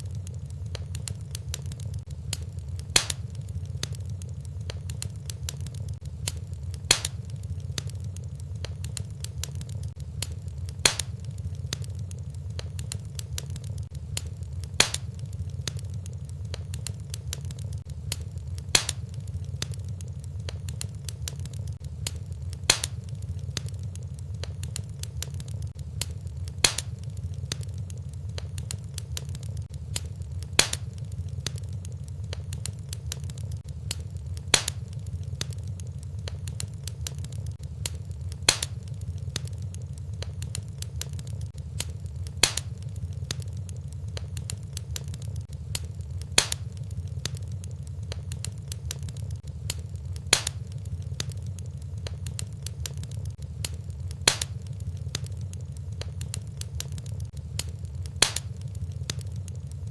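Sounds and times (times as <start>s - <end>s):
fire crackling: 0.0s - 59.9s
sharp pop of fire: 0.8s - 4.0s, 4.7s - 7.9s, 8.6s - 11.9s, 12.6s - 15.9s, 16.5s - 25.4s, 26.0s - 27.7s, 28.3s - 31.7s, 33.2s - 47.4s, 48.1s - 53.0s, 53.6s - 59.2s.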